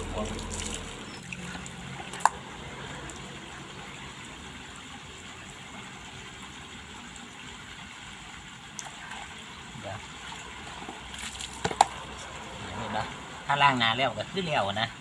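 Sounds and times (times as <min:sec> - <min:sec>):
water splashing and dripping: 0:00.0 - 0:13.5.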